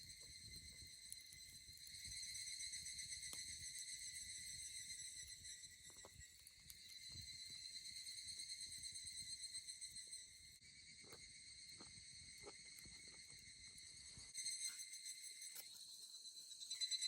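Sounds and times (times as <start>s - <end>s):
crickets and insects chirring: 0.0s - 17.0s.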